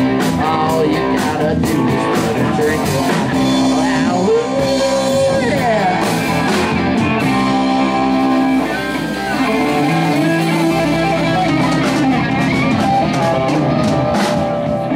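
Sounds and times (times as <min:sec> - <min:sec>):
electric guitar held notes: 0:00.0 - 0:14.9
live rock band playing: 0:00.0 - 0:14.9.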